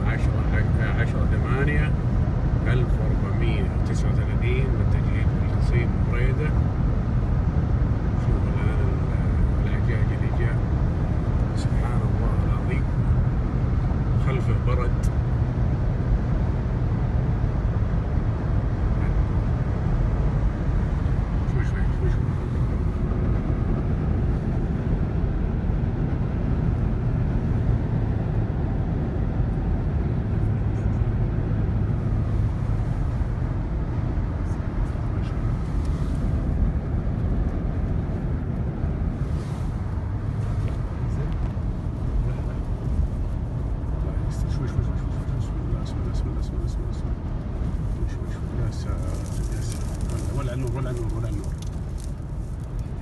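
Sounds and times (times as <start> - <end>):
car engine rumble: 0.0 - 53.0
road and wind noise: 0.0 - 53.0.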